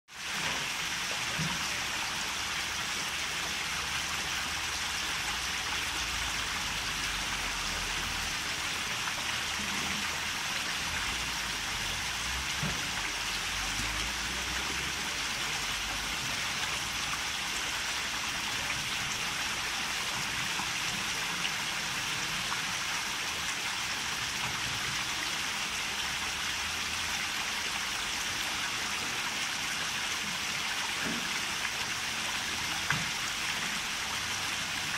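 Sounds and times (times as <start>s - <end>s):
water splashing and trickling: 0.1s - 34.9s.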